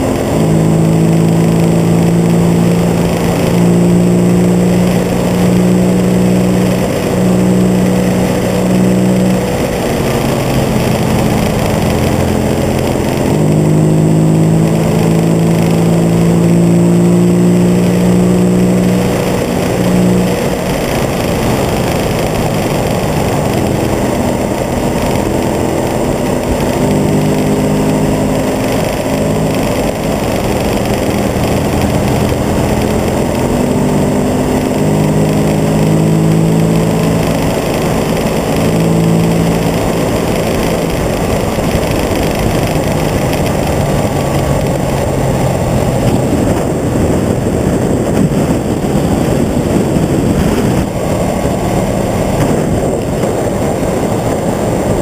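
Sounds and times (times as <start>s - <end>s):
heavy wind rush: 0.0s - 55.0s
motorcycle engine running: 0.0s - 55.0s.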